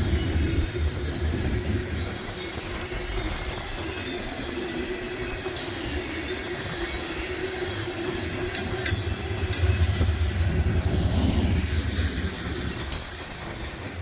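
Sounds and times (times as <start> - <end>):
freight cars rumbling on rails: 0.0 - 14.0
wind buffeting microphone: 0.0 - 14.0.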